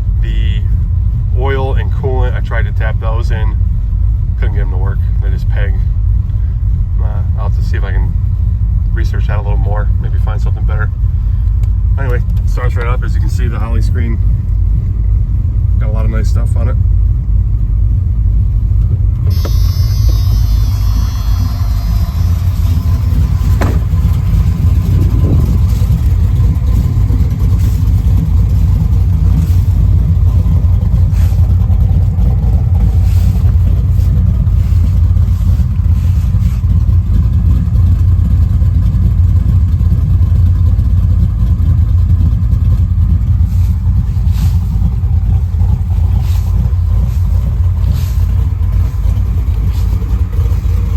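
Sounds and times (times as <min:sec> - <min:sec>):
car engine rumbling: 0:00.0 - 0:50.9.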